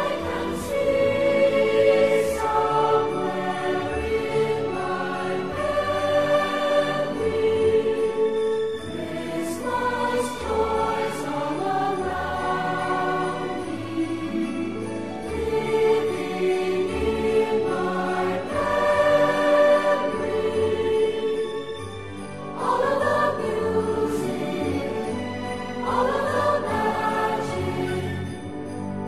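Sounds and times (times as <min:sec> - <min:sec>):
choir singing slow held notes: 0:00.0 - 0:28.5.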